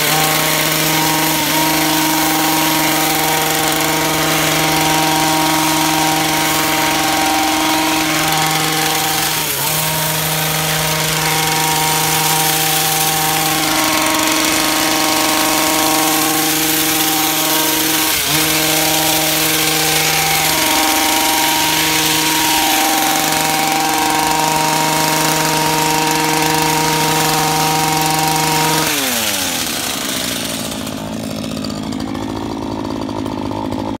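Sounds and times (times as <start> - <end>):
hedge trimmer cutting: 0.0 - 34.0
hedge trimmer winding down: 0.0 - 34.0.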